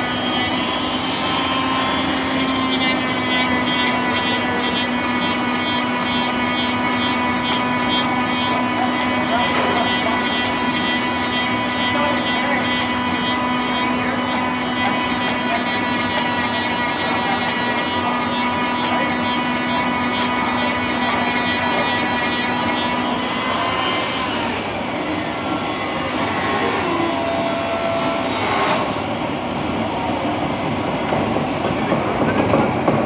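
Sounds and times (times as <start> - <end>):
woodshop machine whining: 0.0 - 33.0.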